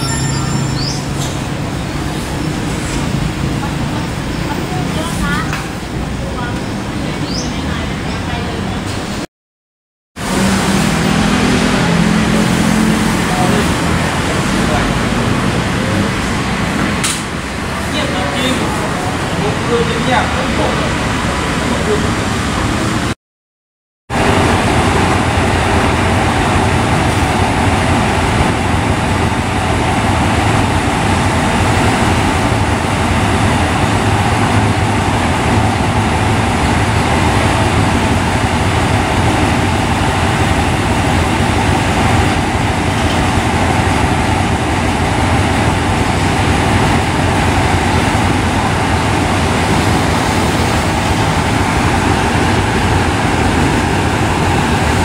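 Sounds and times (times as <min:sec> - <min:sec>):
locomotive engine humming: 0:00.0 - 0:09.2, 0:10.2 - 0:23.2, 0:24.1 - 0:55.0.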